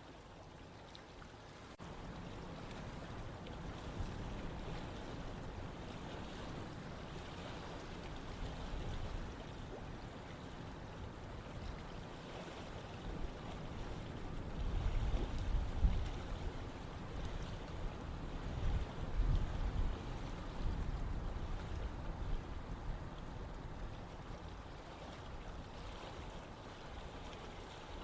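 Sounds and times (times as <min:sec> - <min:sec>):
water rushing with low rumble: 0:00.0 - 0:28.0.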